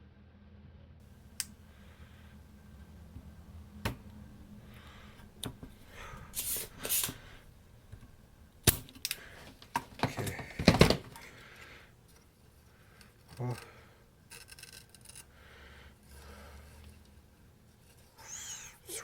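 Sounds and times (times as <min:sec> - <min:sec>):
low steady hum: 0:00.7 - 0:19.0.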